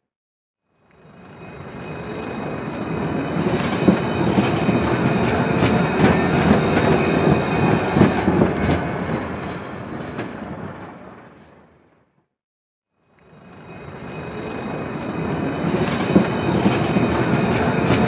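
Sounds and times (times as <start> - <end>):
train rumbling past: 0.8 - 12.0, 13.1 - 18.0.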